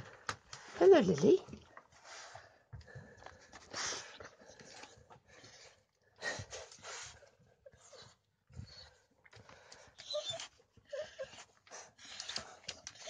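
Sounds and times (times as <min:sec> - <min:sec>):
dog panting: 0:01.9 - 0:13.0.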